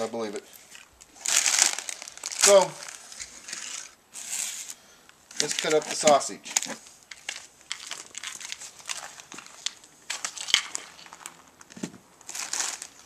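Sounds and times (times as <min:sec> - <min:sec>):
plastic wrapper crinkling: 0:00.6 - 0:13.0.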